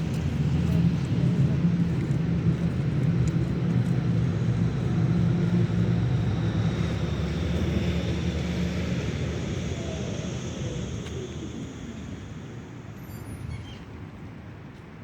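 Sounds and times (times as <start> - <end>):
low engine drone: 0.0 - 14.2.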